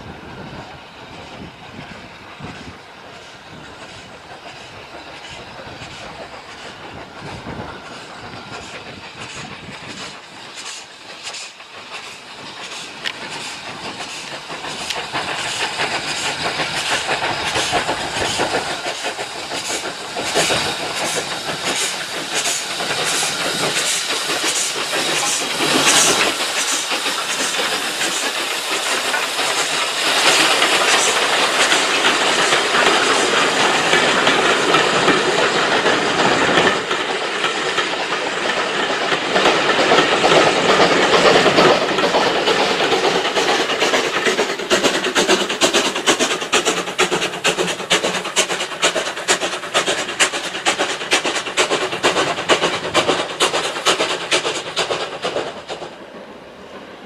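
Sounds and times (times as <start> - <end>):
steam locomotives passing: 0.0 - 57.0
train wheels clickety-clack: 0.0 - 57.0.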